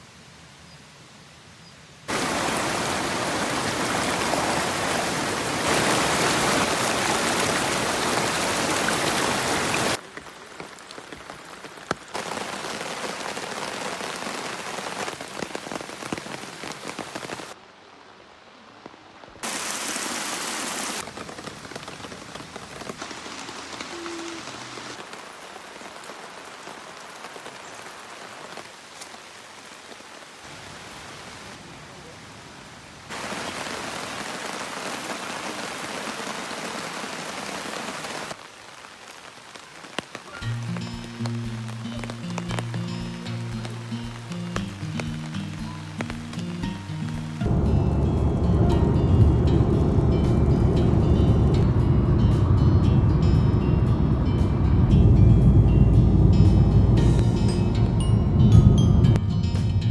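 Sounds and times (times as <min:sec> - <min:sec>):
heavy rain pouring: 0:02.1 - 0:58.0.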